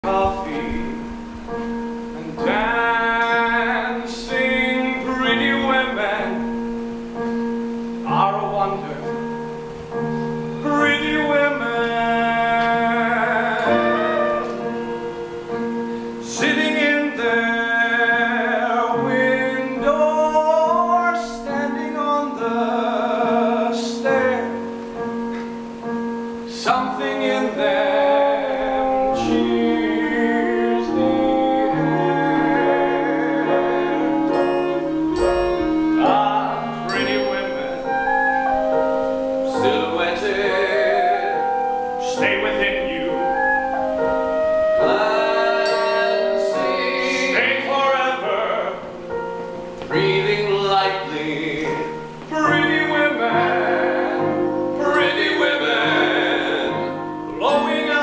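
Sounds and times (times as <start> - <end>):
piano chords: 0.0 - 58.0.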